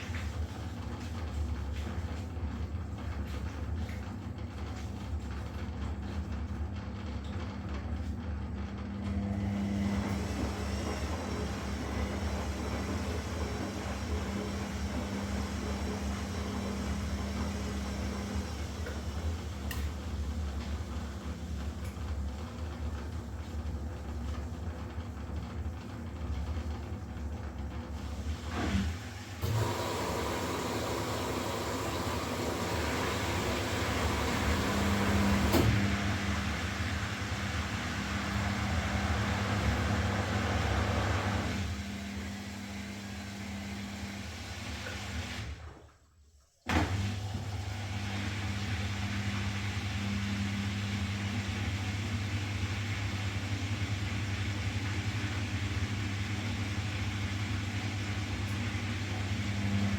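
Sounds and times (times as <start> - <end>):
washing machine running: 0.0 - 59.9.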